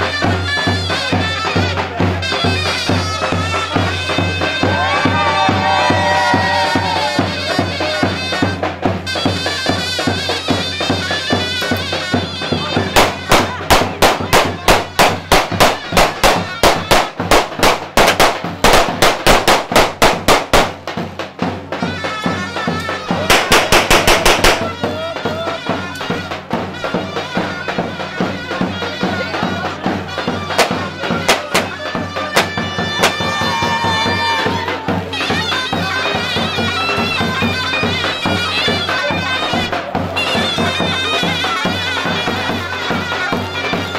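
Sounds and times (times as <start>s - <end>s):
reedy wind instrument melody: 0.0s - 43.9s
sharp percussive beats: 0.0s - 43.9s.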